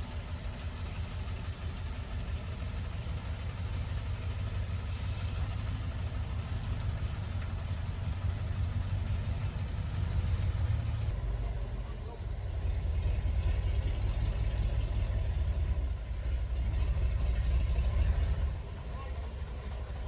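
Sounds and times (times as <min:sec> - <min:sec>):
bulldozer diesel engine rumbling: 0:00.0 - 0:20.0.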